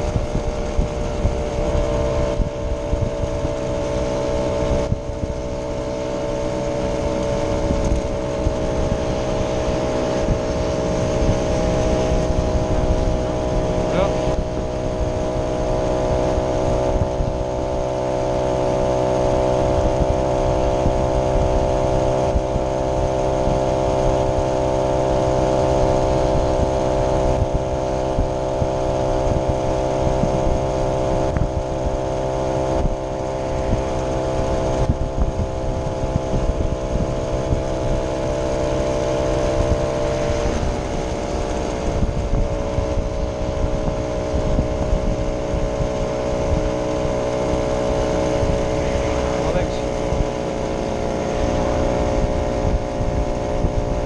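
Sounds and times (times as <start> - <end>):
low wind rumble: 0.0 - 54.0
moped two-stroke engine running: 0.0 - 54.0.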